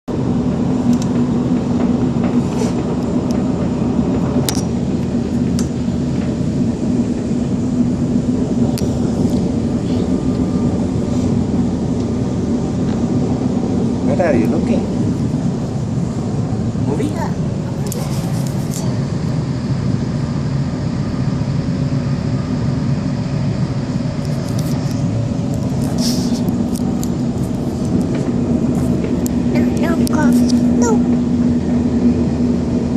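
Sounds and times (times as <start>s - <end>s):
train rumbling: 0.0s - 32.9s.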